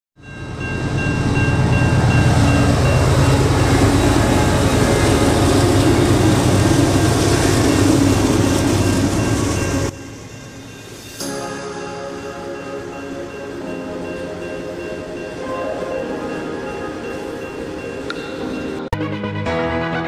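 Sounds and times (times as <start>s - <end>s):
level crossing warning bell: 0.2s - 18.9s
wheel and rail noise: 0.2s - 18.9s
diesel locomotive engines: 0.2s - 19.5s.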